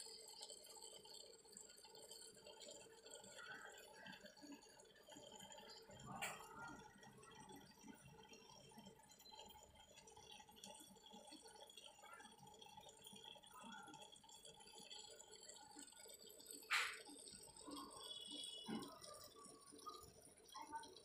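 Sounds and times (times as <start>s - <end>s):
aquarium water dripping: 0.0s - 21.0s.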